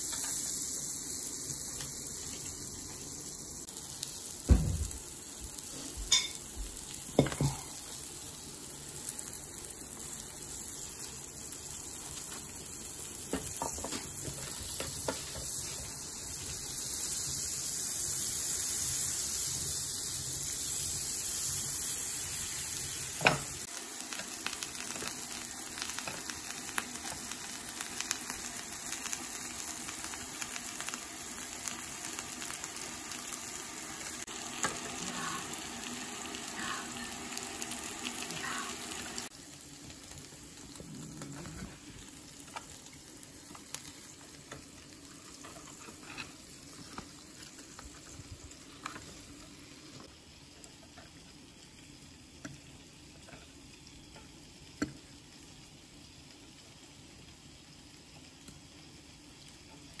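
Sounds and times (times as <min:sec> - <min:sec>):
meat sizzling on a grill plate: 0:00.0 - 1:00.0.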